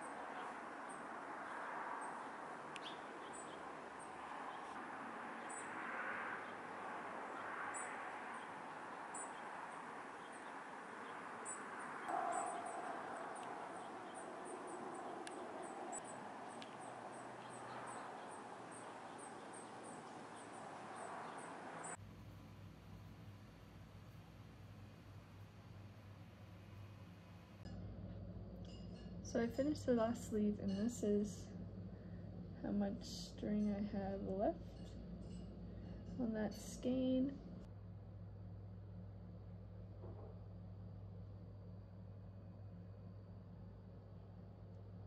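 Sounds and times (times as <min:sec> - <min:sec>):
steady outdoor hiss: 0:00.0 - 0:45.0.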